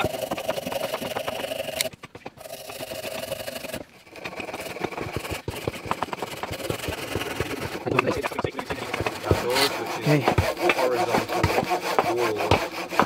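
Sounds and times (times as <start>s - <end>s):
saw cutting wood: 0.0s - 13.0s.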